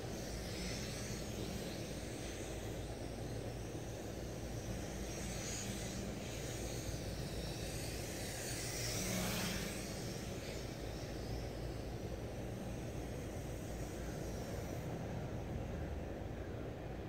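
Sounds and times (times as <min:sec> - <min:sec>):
drone propellers buzzing: 0:00.0 - 0:16.4.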